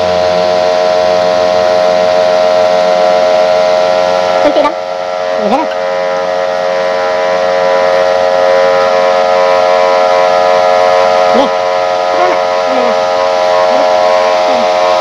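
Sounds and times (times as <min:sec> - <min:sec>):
fogging machine droning buzz: 0:00.0 - 0:15.0.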